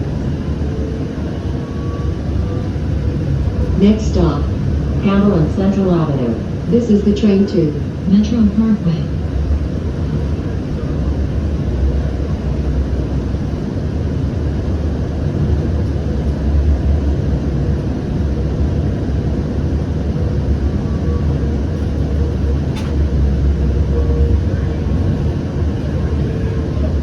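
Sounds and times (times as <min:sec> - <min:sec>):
faint steady hum: 0:00.0 - 0:27.0
wheels rumbling on rail: 0:00.0 - 0:27.0.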